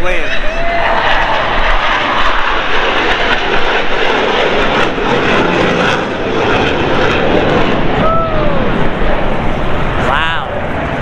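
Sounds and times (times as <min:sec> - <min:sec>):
jet flying past: 0:00.0 - 0:11.0.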